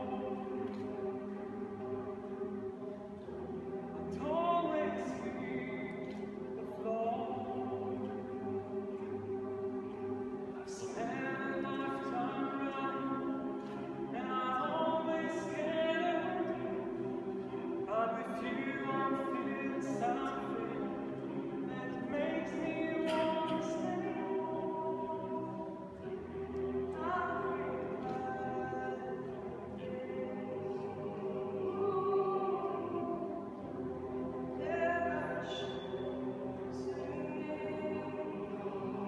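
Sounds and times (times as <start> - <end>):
choir singing a cappella: 0.0 - 39.0.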